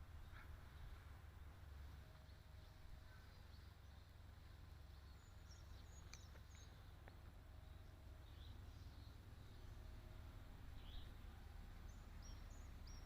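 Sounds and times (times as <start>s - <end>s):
faint low outdoor rumble: 0.0s - 13.0s.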